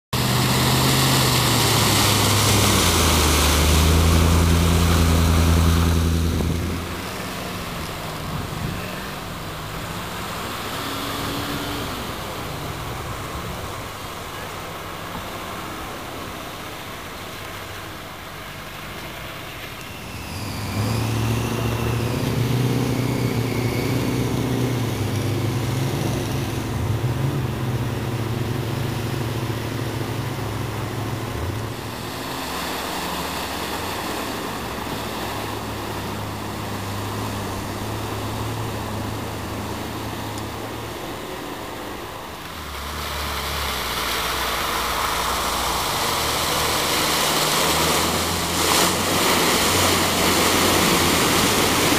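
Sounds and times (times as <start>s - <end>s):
water rushing and splashing: 0.0s - 51.9s
off-road engines under load: 0.1s - 51.9s.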